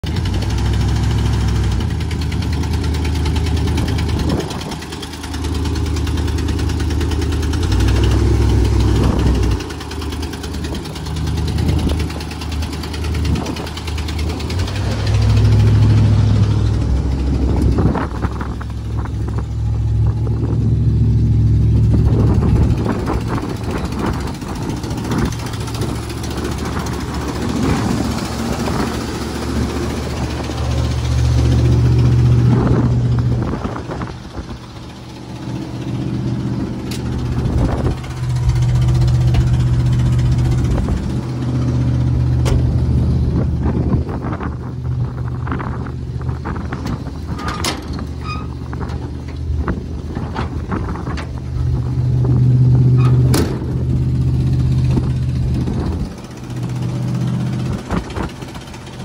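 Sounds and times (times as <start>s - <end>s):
pickup engine idling: 0.0s - 59.0s.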